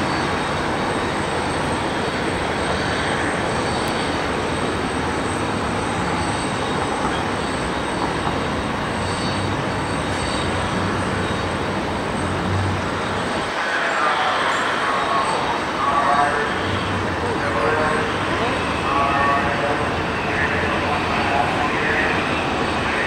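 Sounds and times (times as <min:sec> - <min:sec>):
jet airliner engines taxiing: 0:00.0 - 0:23.0.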